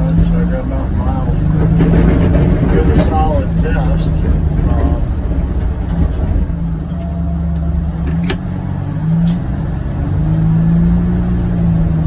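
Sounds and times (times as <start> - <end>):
drivetrain whine: 0.0 - 12.0
utility vehicle engine droning: 0.0 - 12.0.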